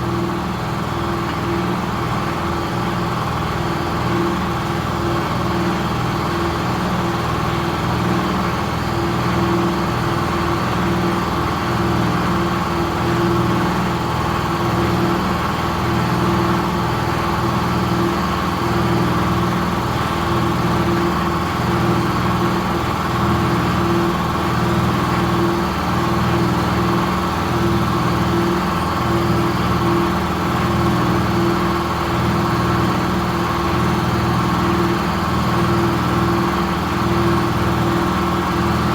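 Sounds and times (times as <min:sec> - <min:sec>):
motor humming steadily: 0:00.0 - 0:38.9.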